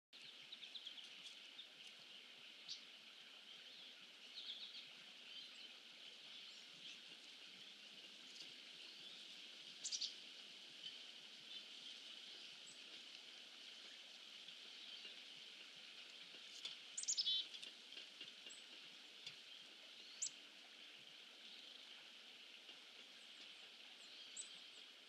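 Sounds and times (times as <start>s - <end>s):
faint hiss: 0.2s - 25.0s
small birds chirping: 0.2s - 25.0s.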